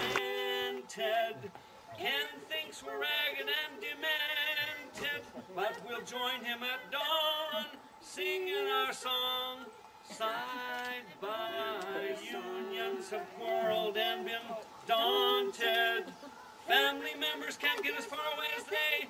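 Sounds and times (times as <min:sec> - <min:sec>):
man and woman singing duet: 0:00.0 - 0:19.0.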